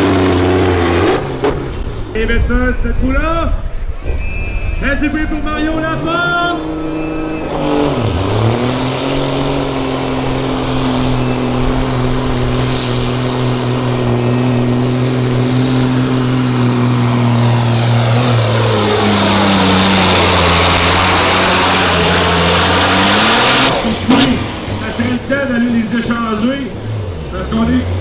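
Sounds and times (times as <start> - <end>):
diesel truck engine at full throttle: 0.0 - 4.0, 5.1 - 28.0.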